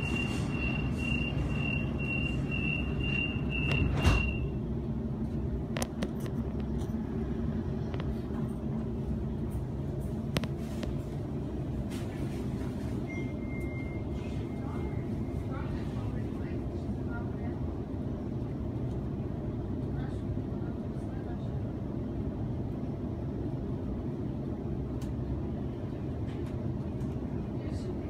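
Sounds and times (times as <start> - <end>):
electric train running rumble: 0.0 - 28.0.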